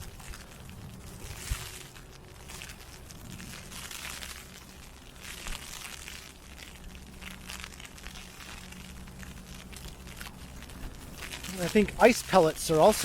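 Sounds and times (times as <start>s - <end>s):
crackling patter on umbrella: 0.0s - 13.0s
low rumble: 0.0s - 13.0s.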